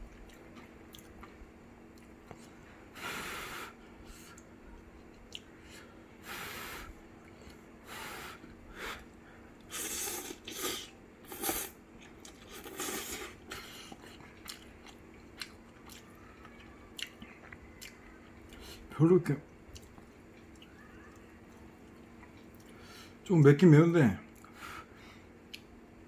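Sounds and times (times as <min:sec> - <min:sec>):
person chewing noodles: 0:00.0 - 0:18.9, 0:19.5 - 0:23.2, 0:24.3 - 0:25.8.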